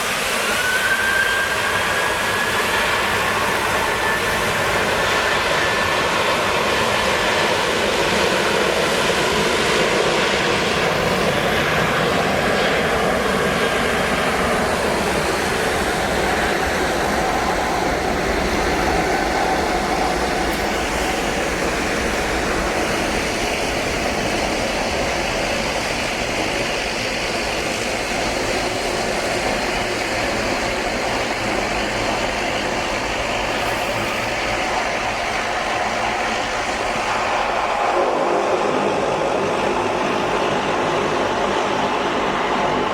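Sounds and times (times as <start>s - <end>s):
jet engines rushing: 0.0s - 42.9s.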